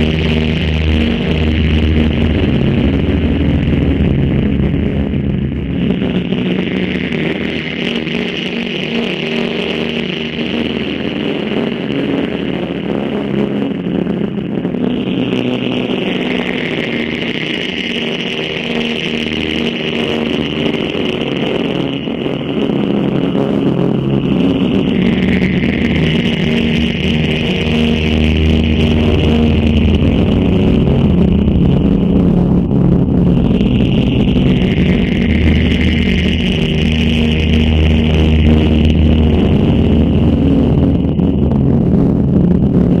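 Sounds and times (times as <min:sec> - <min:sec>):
electronic drone: 0:00.0 - 0:43.0.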